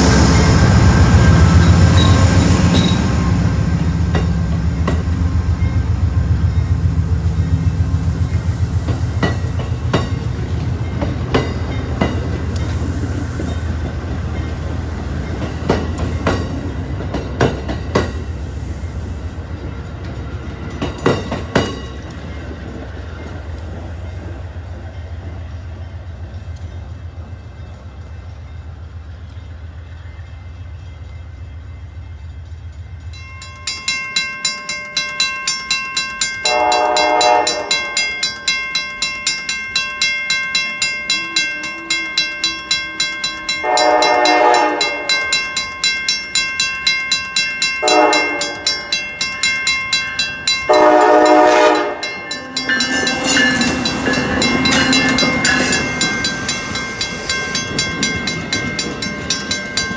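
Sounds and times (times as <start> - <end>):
train wheels clacking on rail joints: 0.0 - 30.2, 31.9 - 59.9
locomotive humming past: 0.0 - 59.9.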